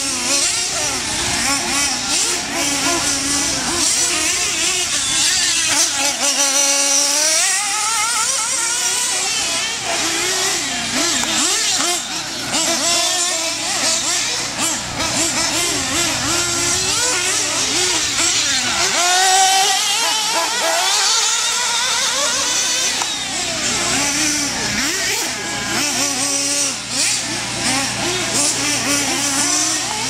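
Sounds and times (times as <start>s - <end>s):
rc car engines buzzing and revving: 0.0s - 30.0s.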